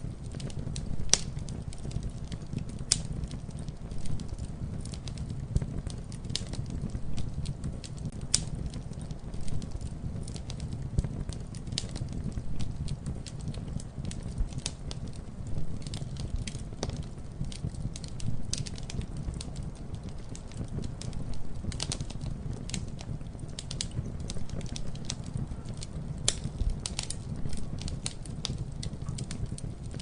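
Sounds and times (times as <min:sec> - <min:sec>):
fire popping and snapping: 0:00.0 - 0:30.0
wood fire crackling: 0:00.0 - 0:30.0.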